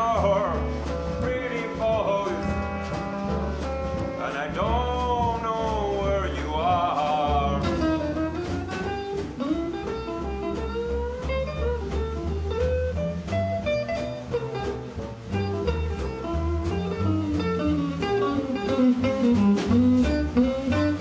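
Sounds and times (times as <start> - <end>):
acoustic blues band playing: 0.0 - 21.0.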